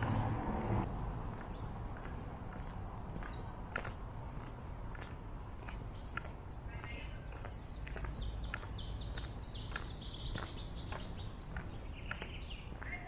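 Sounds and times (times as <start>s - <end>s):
songbird singing: 0.0s - 13.0s
footsteps on paving: 0.6s - 13.0s.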